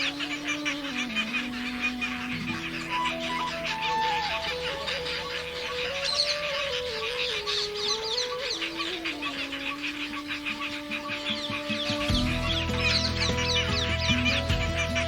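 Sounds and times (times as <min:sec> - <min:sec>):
many birds calling: 0:00.0 - 0:15.0
slow background music melody: 0:00.0 - 0:15.0.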